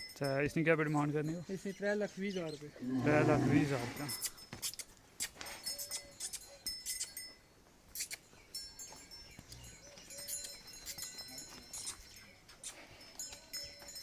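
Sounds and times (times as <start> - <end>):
metal livestock bells jingling: 0.0 - 4.6, 5.5 - 14.0.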